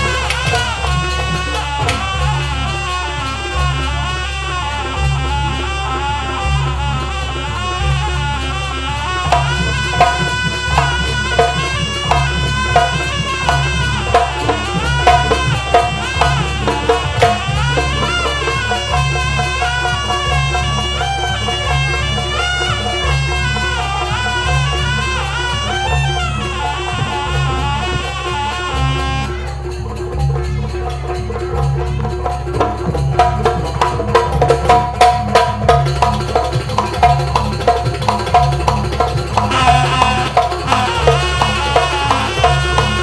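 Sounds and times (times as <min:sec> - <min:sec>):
repeating drum beat: 0:00.0 - 0:03.8, 0:09.1 - 0:29.2, 0:30.1 - 0:43.0
wind instrument melody: 0:00.0 - 0:43.0.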